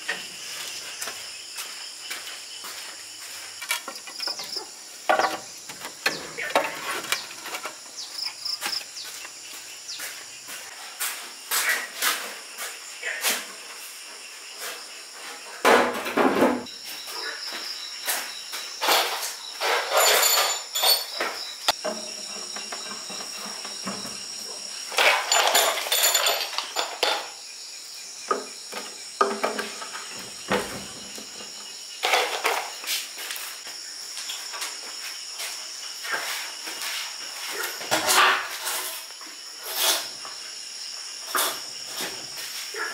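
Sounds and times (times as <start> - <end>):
insects trilling: 0.0 - 16.0, 16.6 - 42.9.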